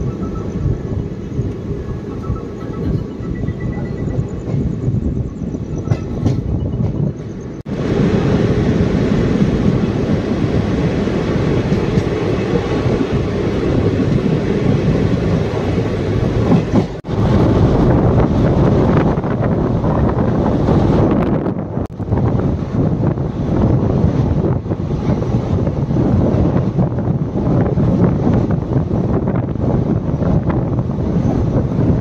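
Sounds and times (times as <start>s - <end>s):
train wheels rumbling and rattling: 0.0s - 32.0s.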